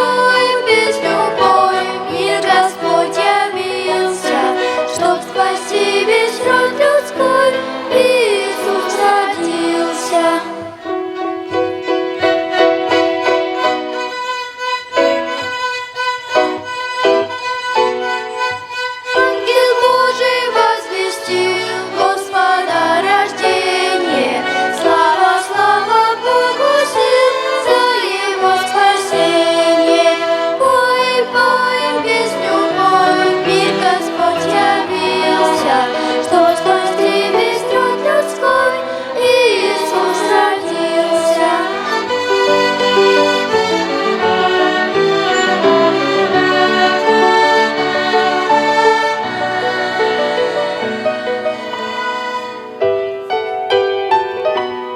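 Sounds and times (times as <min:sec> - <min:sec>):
violin ensemble playing: 0:00.0 - 0:54.9.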